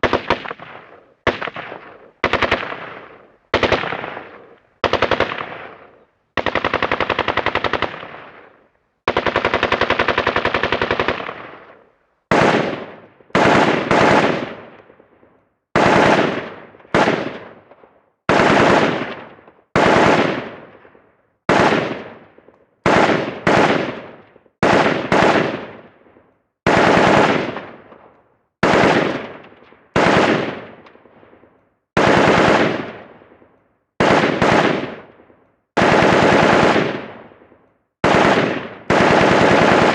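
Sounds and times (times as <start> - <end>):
assault rifle firing bursts: 0.0 - 15.1, 15.7 - 39.9.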